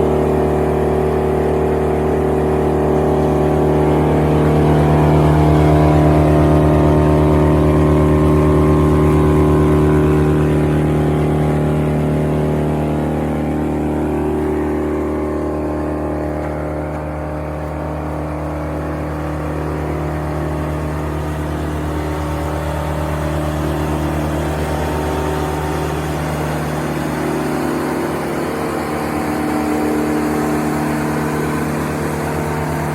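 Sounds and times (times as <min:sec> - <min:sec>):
wood chipper engine running: 0:00.0 - 0:32.9.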